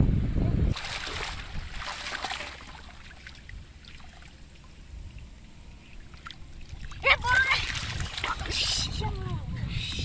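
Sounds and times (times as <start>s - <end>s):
low steady rumble: 0.0s - 10.0s
water trickling: 0.7s - 10.0s.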